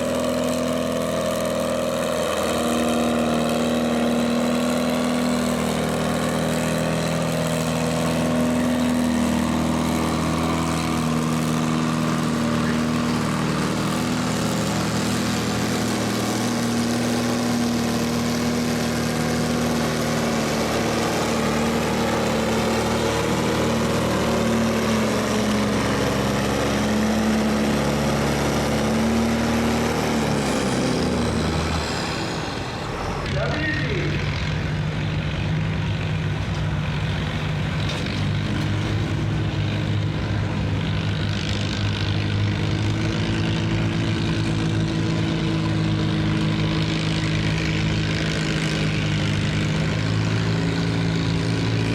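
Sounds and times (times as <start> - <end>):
tractor engine running hard: 0.0 - 51.9.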